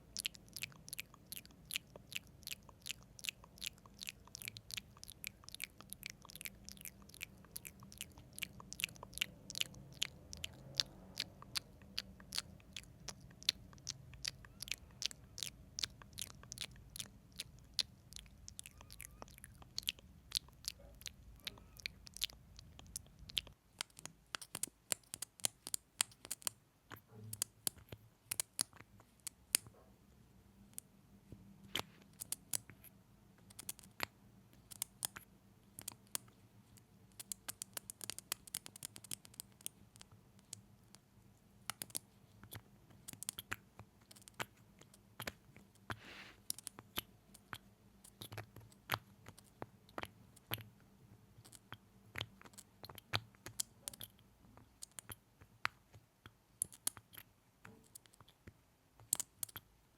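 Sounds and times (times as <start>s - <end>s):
wet mouth clicks and lip smacks: 0.0s - 29.7s, 31.7s - 36.4s, 41.7s - 50.7s, 51.4s - 59.7s.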